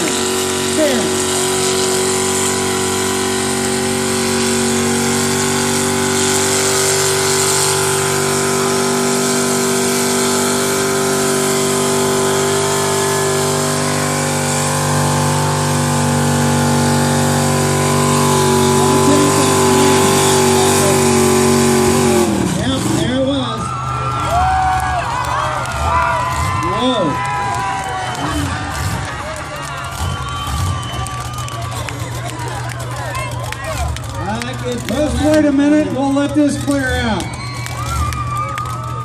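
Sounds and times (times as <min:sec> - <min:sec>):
car engine high revs: 0:00.0 - 0:39.0.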